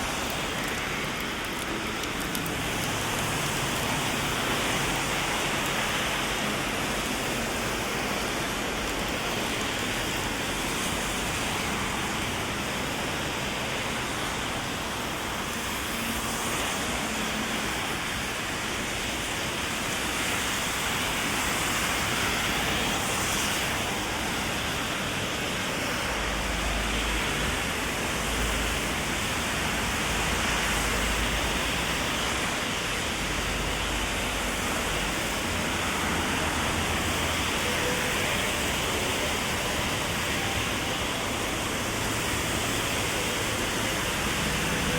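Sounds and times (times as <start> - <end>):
heavy rain on umbrella: 0.0 - 44.9.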